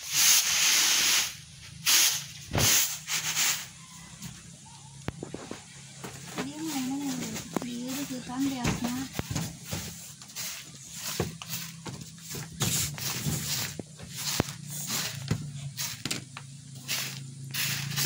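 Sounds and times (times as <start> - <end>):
rice grains swishing on a tray: 0.0 - 3.8, 6.4 - 16.0, 16.8 - 18.0.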